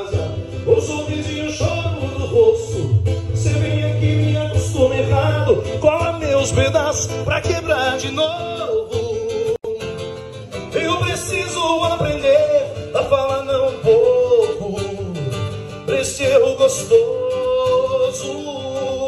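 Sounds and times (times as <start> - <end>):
man singing through speaker: 0.0 - 9.9, 10.7 - 19.0
strummed acoustic guitar: 0.0 - 19.0.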